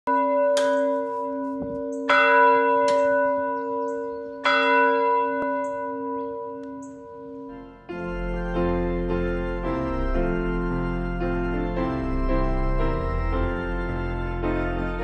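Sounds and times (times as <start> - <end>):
church bell ringing: 0.1 - 15.0.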